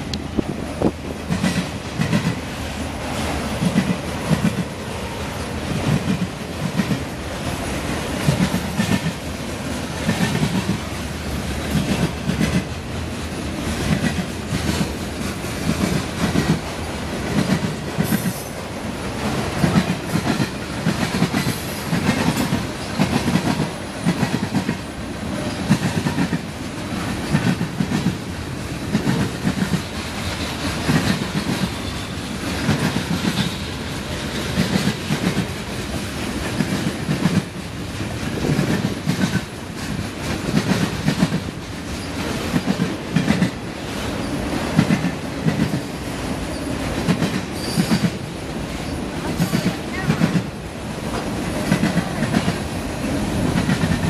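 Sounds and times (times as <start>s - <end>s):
train wheels clacking over rail joints: 0.1s - 54.0s.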